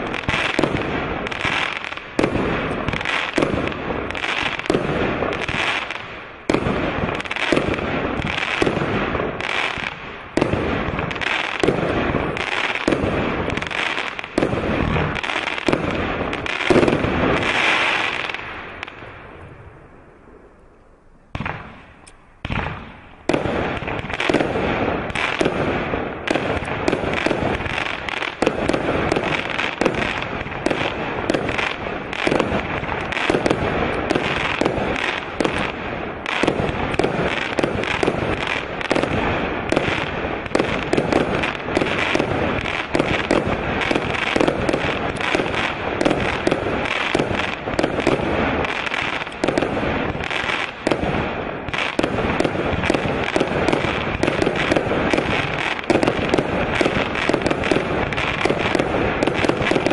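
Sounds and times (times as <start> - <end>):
firework barrage bursting: 0.0 - 20.5, 21.3 - 59.9.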